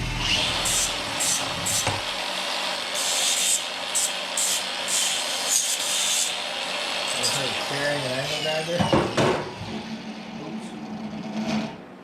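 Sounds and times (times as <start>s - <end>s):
power tool motor hum: 0.0s - 9.9s.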